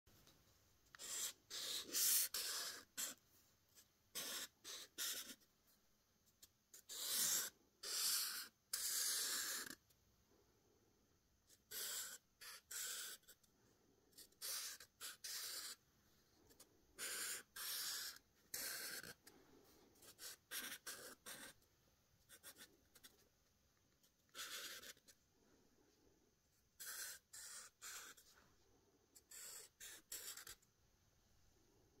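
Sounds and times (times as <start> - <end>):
marker drawing on paper: 0.2 - 9.9, 11.4 - 25.2, 26.5 - 30.7.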